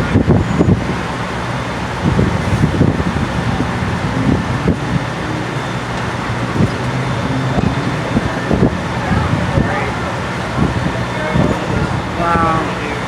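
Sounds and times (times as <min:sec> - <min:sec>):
road traffic noise: 0:00.0 - 0:13.0
vehicle engine hum: 0:00.0 - 0:13.0.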